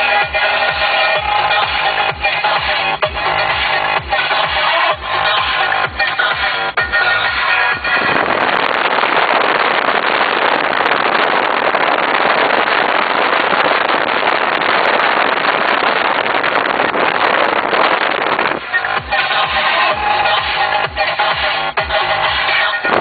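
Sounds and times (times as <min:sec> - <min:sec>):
road and wind noise in car: 0:00.0 - 0:23.0.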